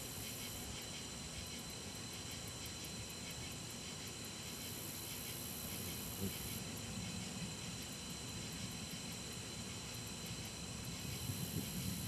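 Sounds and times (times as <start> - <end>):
insects chorus: 0.0 - 12.0
steady hiss: 0.0 - 12.0.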